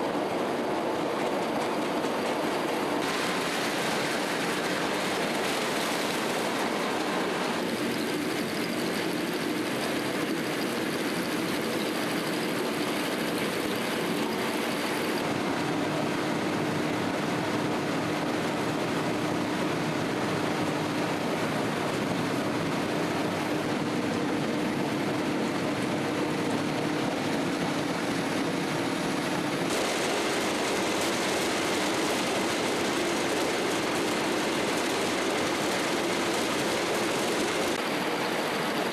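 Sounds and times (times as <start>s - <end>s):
combine harvester running: 0.0s - 38.9s
constant hum: 0.0s - 38.9s.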